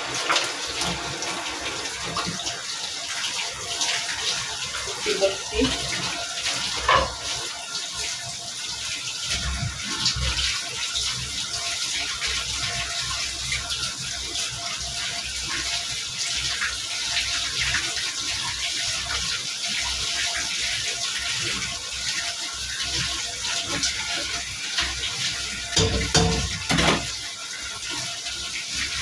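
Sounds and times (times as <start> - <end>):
tap water running into sink: 0.0 - 29.0.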